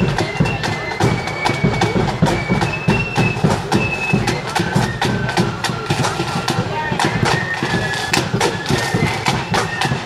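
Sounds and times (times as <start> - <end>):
flutes playing: 0.0 - 10.0
marching drum beat: 0.0 - 10.0.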